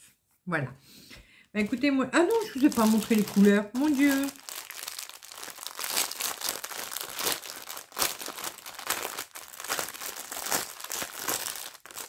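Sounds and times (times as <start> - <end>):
packaging crinkling and rustling: 1.6 - 12.0.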